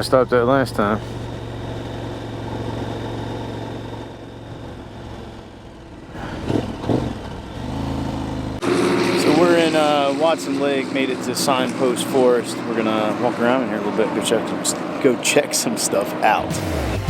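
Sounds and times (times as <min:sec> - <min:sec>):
motorcycle engine humming: 0:00.0 - 0:17.0.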